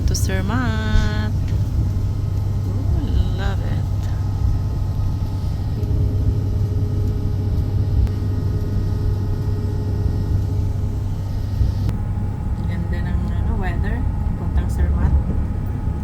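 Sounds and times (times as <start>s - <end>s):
electric train rumbling on track: 0.0s - 16.0s
thin steady whine: 0.0s - 16.0s.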